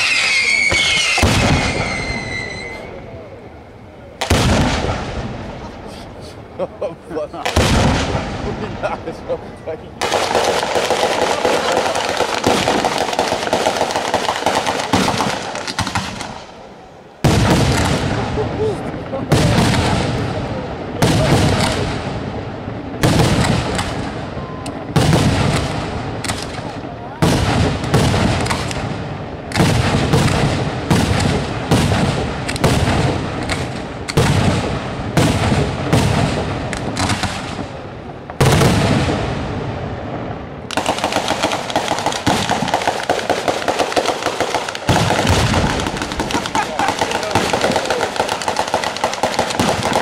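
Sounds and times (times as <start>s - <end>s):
rapid firecracker bangs: 0.0s - 2.9s, 4.2s - 6.0s, 7.4s - 9.2s, 10.0s - 50.0s
firework shells bursting overhead: 0.0s - 3.0s, 10.0s - 39.7s, 40.6s - 50.0s.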